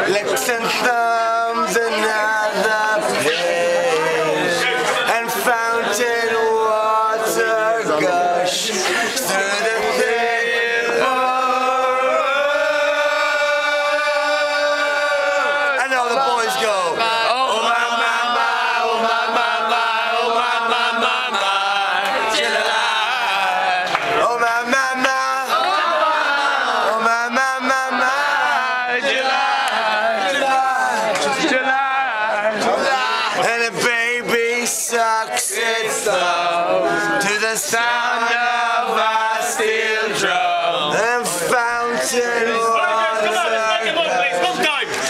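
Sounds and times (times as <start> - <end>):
two men singing duet: 0.0 - 15.8, 17.0 - 44.5.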